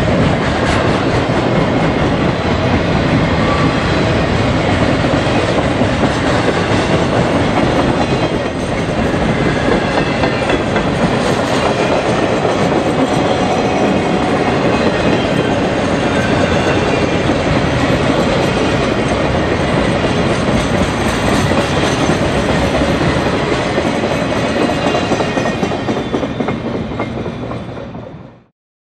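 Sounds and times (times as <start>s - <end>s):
train wheels rolling on rails: 0.0s - 28.5s.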